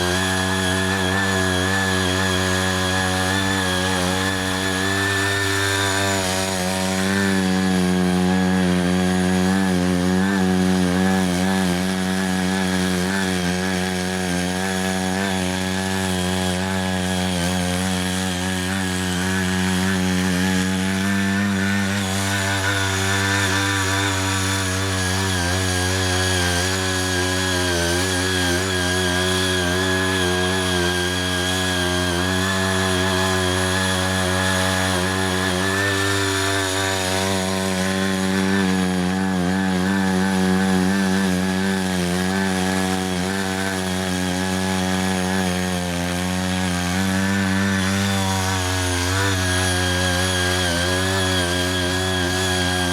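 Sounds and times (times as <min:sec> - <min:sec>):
power tiller engine running: 0:00.0 - 0:52.9
rotor churning soil: 0:00.0 - 0:52.9.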